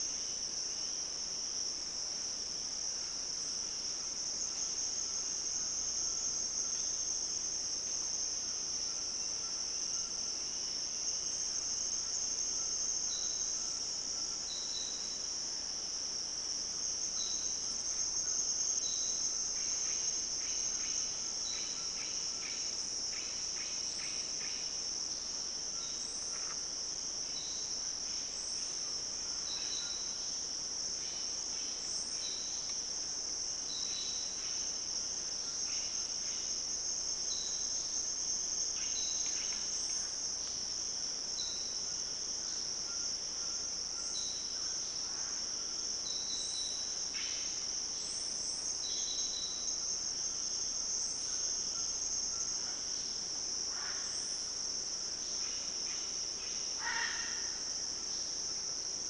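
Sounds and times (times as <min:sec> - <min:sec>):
insect chirps: 0:00.0 - 0:59.0
insect drone: 0:00.0 - 0:59.0.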